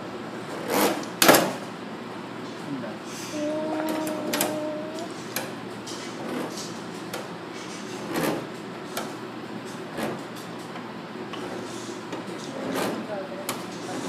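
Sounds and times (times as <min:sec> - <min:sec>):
room noise: 0:00.0 - 0:14.0.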